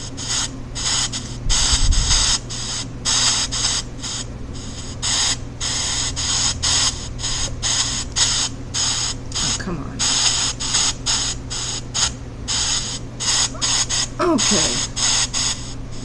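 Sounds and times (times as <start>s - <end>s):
hissing noise bursts: 0.0s - 16.0s.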